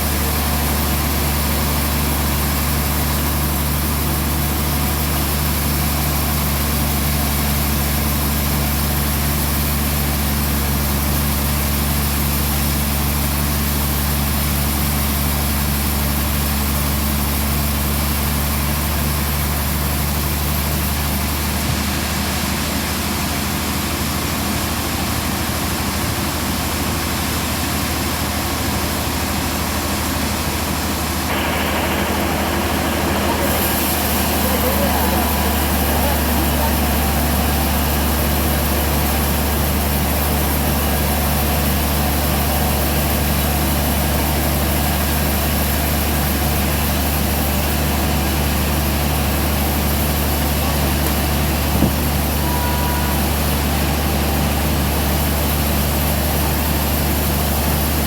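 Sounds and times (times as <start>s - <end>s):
sawmill engine hum: 0.0s - 58.0s.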